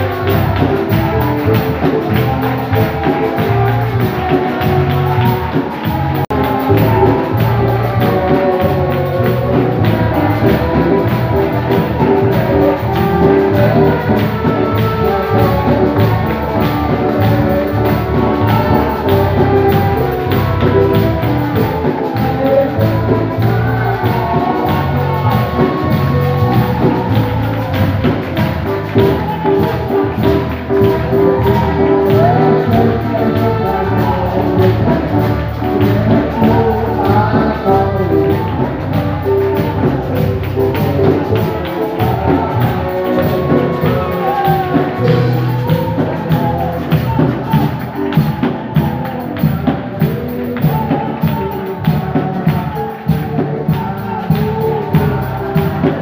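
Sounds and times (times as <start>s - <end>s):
bass: 0.0s - 56.0s
congregation clapping: 0.0s - 56.0s
drum kit: 0.0s - 56.0s
person singing: 0.0s - 56.0s.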